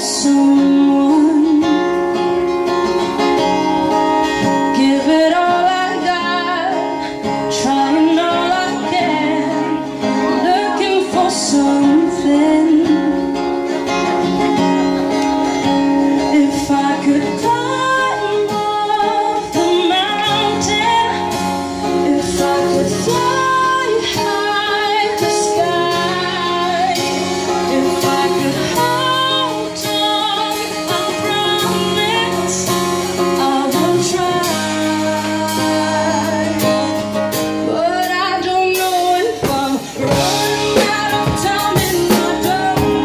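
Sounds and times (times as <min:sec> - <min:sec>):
woman singing: 0:00.0 - 0:14.4, 0:15.7 - 0:43.0
live band music: 0:00.0 - 0:43.0
strummed acoustic guitar: 0:00.0 - 0:43.0.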